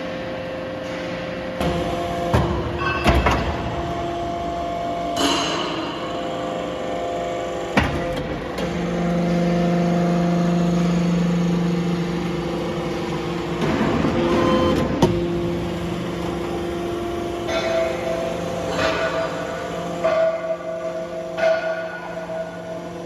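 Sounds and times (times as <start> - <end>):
hydraulic pump hum: 0.0 - 23.0.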